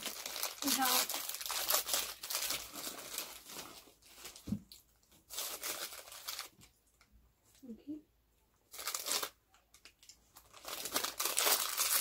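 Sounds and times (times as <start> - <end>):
plastic wrapper crinkling: 0.0 - 7.1, 8.7 - 12.0.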